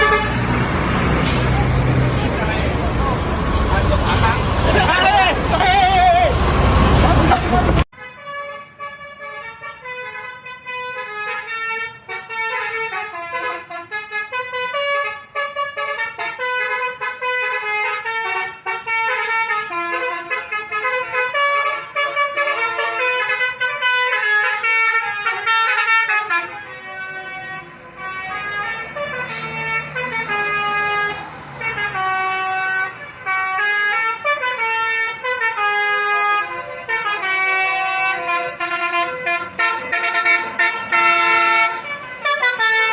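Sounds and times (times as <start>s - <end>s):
multi-tone musical bus horn: 0.0s - 2.8s, 3.4s - 42.9s.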